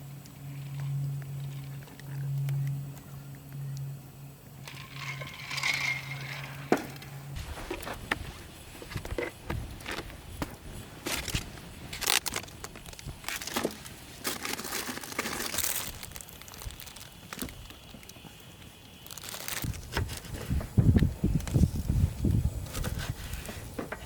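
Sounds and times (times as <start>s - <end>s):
crinkling and rustling: 4.6s - 24.0s.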